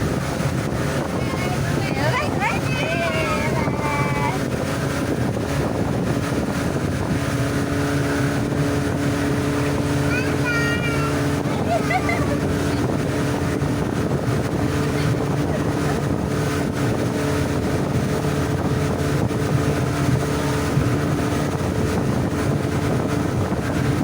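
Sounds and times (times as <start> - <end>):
motorboat engine running: 0.0 - 24.0
wind buffeting microphone: 0.0 - 24.0.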